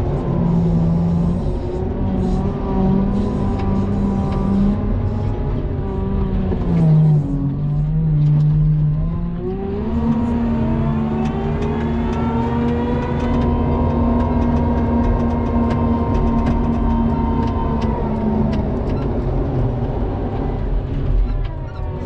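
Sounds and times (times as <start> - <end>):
diesel engine revving under load: 0.0 - 21.3.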